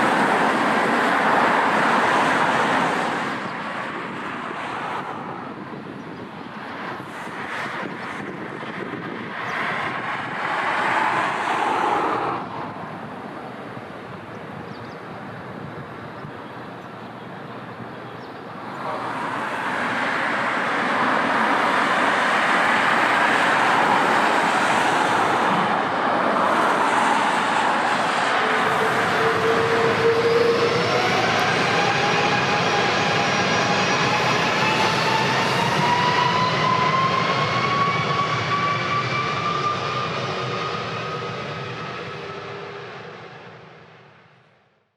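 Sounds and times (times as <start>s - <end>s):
engine whine: 0.0s - 44.4s
jet airliner engines roaring: 0.0s - 44.7s.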